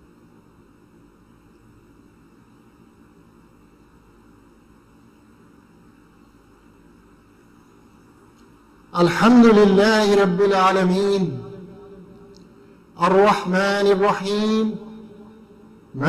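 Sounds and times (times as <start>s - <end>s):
faint electrical hum with hiss: 0.0s - 16.0s.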